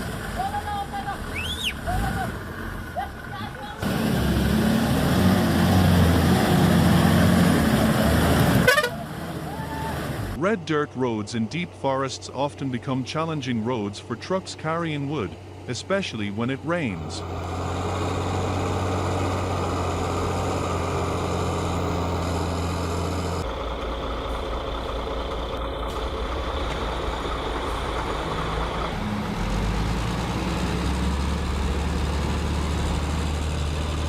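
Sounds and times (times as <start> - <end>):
heavy truck diesel engines running: 0.0 - 34.0.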